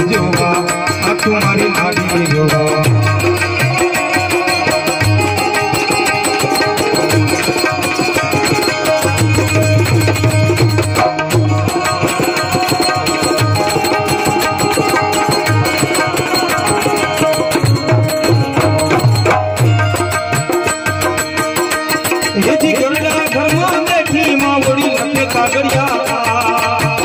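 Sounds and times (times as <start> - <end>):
hand drum: 0.0 - 27.0.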